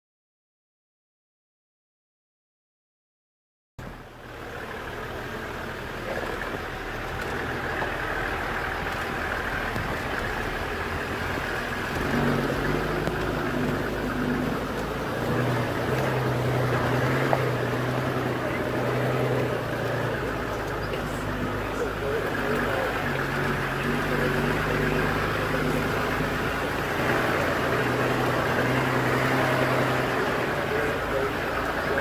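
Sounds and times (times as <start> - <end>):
vehicle engine running: 3.8 - 32.0.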